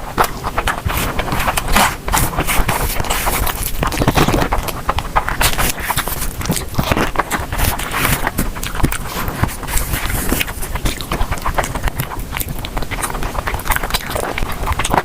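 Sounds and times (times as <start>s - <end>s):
chewing with clicks and smacks: 0.0s - 15.0s.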